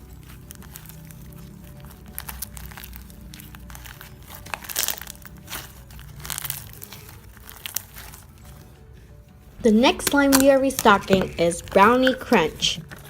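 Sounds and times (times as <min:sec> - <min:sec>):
slime crinkling and crackling: 0:00.0 - 0:13.0.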